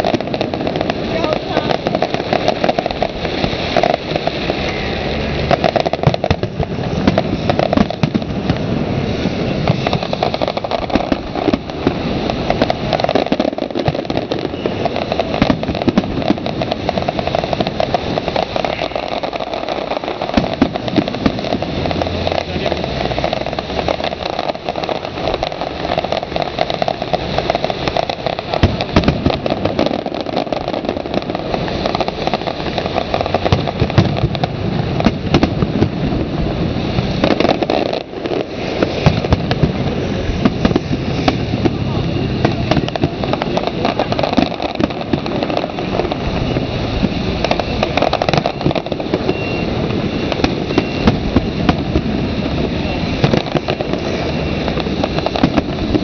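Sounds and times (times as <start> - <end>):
fireworks bursts and pops: 0.0 - 56.0
steady rumble: 0.0 - 56.0.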